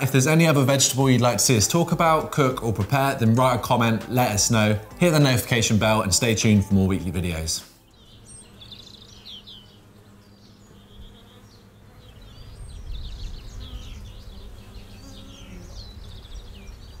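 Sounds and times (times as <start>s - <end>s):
small birds chirping and trilling: 0.0s - 17.0s.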